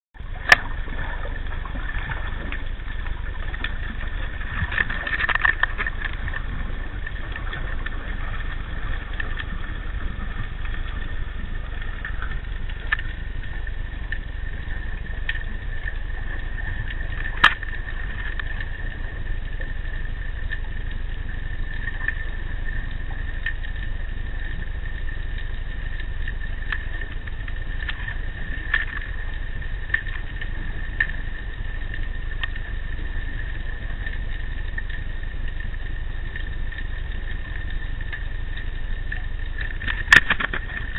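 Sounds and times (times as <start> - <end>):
low underwater rumble: 0.2 - 40.9.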